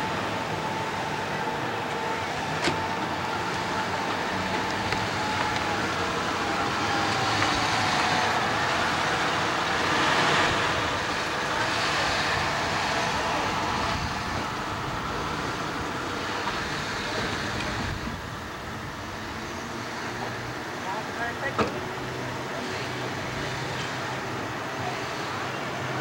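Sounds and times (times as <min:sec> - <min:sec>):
pickup truck driving past: 0:00.0 - 0:26.0.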